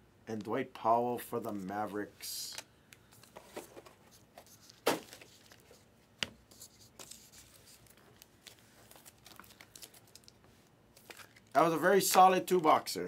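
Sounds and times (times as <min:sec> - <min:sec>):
cards rustling: 0:01.5 - 0:12.3.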